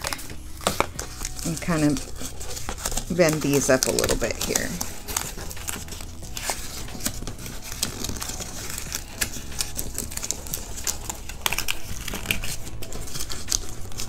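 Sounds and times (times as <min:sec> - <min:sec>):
cardboard crackling while bent: 0:00.0 - 0:14.0.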